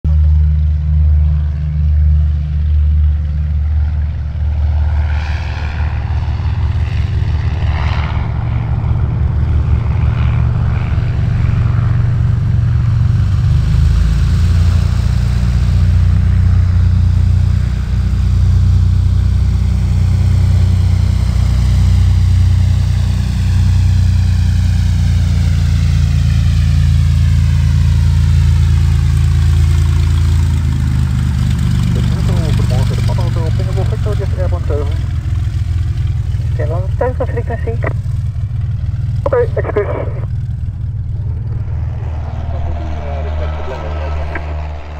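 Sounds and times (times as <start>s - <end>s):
light aircraft engine and propeller: 0.1s - 44.9s.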